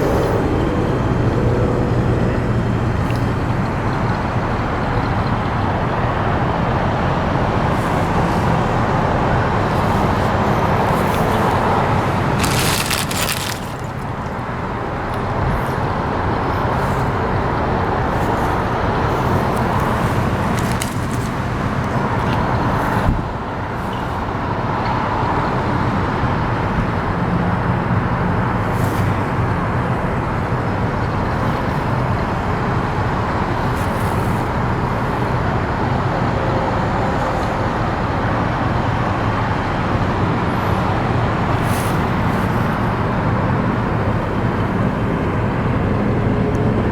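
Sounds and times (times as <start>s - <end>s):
pickup engine rumbling: 0.0s - 46.9s.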